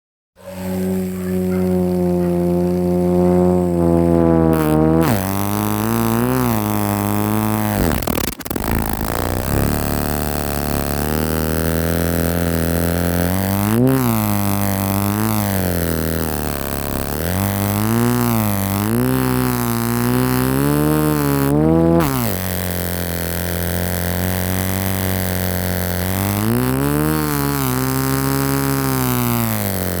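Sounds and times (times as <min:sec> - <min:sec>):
old engine revving: 0:00.4 - 0:30.0.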